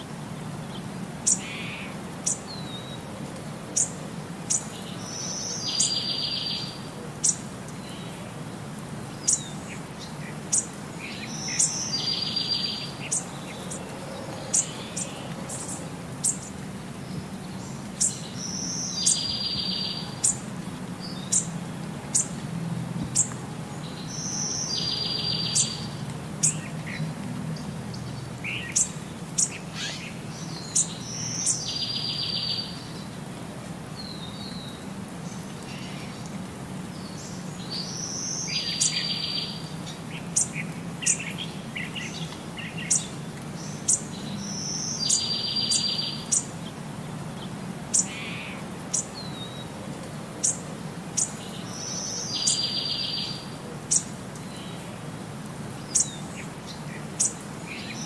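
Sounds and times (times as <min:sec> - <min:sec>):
birds chirping: 0:03.8 - 0:08.2, 0:09.0 - 0:22.4, 0:23.1 - 0:33.3, 0:34.0 - 0:49.8, 0:50.4 - 0:58.0.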